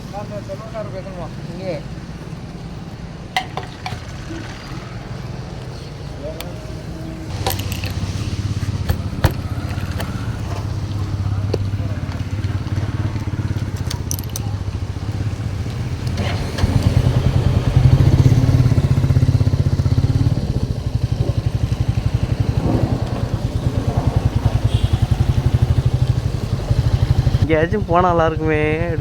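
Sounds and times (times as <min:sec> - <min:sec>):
motorcycle engine running: 0:01.4 - 0:29.0.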